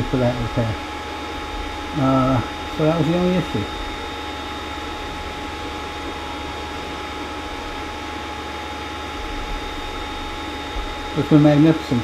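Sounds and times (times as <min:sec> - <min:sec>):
faint whining tones: 0:00.0 - 0:12.0
printer fans humming: 0:00.0 - 0:12.0.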